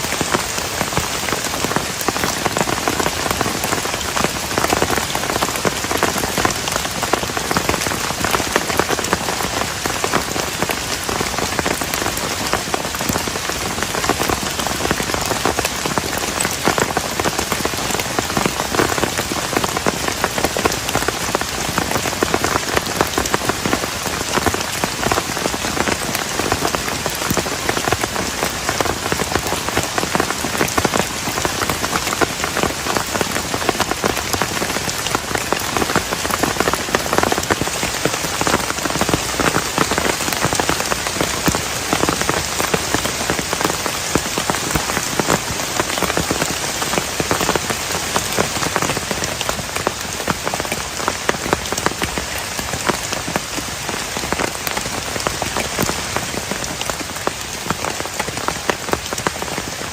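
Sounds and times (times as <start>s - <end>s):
heavy rain patter: 0.0s - 59.9s.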